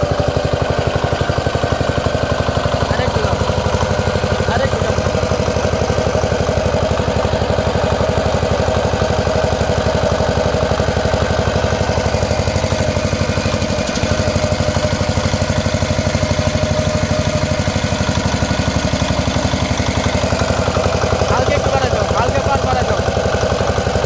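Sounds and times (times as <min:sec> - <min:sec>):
diesel generator engine running: 0:00.0 - 0:24.0.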